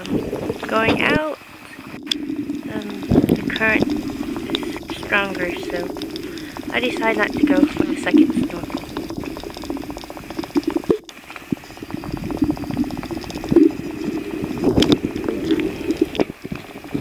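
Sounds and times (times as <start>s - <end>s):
underwater crackling and bubbling: 0.0s - 17.0s.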